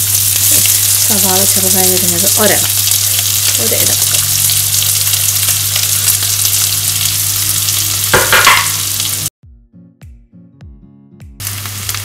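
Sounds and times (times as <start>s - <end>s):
onions sizzling in oil: 0.0s - 9.3s, 11.4s - 12.0s.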